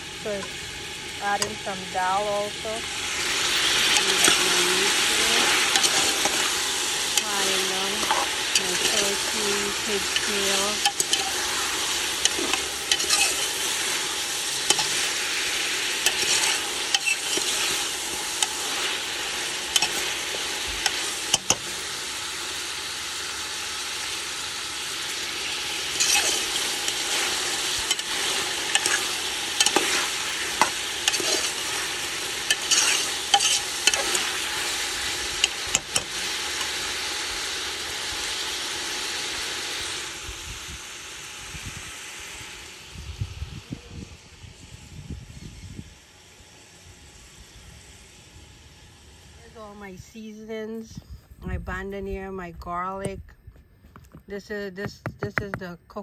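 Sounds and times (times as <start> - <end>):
meat sizzling in a pot: 0.0 - 49.9.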